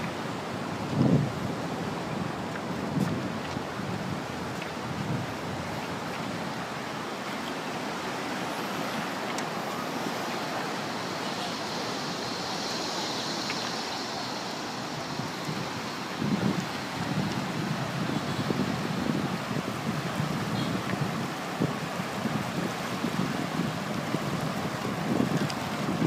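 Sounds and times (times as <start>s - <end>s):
surf on pebble shore: 0.0s - 26.0s.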